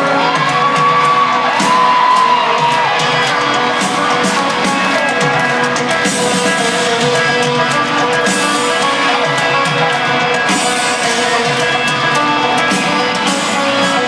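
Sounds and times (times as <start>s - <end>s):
country-rock band playing: 0.0s - 14.0s.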